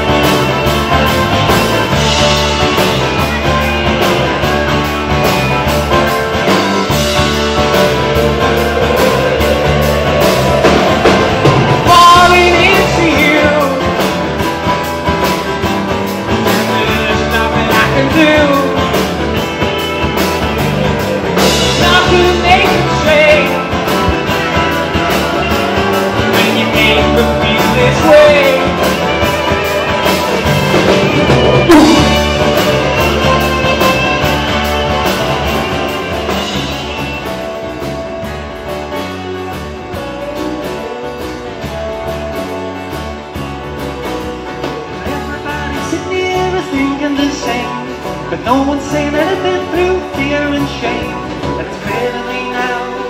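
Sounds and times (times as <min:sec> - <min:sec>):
acoustic guitars strumming: 0:00.0 - 0:53.0
bass guitar: 0:00.0 - 0:53.0
drum kit: 0:00.0 - 0:53.0
person singing: 0:06.8 - 0:14.5, 0:16.4 - 0:38.0, 0:39.0 - 0:53.0.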